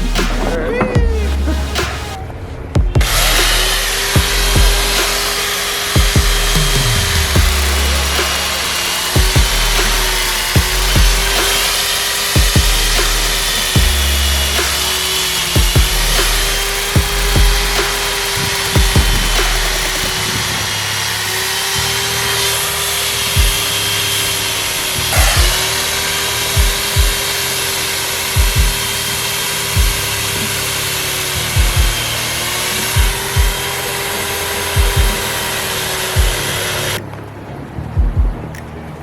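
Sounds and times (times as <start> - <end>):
background music with beat: 0.0 - 37.1, 37.8 - 39.0
chainsaw cutting ice: 3.0 - 37.0.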